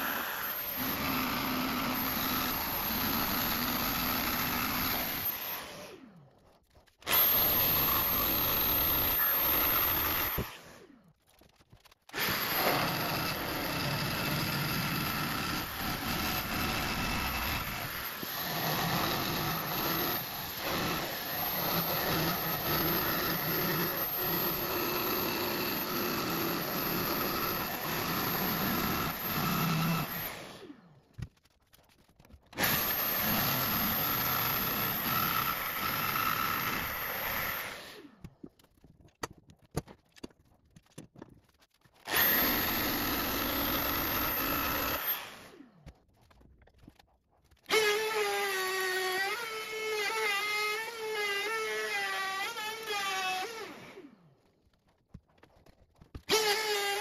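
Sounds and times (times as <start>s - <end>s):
jigsaw sawing hardwood: 0.0s - 6.1s, 7.0s - 10.8s, 12.1s - 30.8s, 31.4s - 38.2s, 41.4s - 45.7s, 47.5s - 54.2s, 55.6s - 57.0s.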